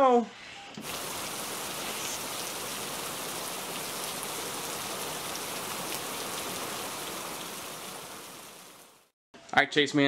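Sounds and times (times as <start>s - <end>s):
crackling hiss: 0.8s - 9.1s.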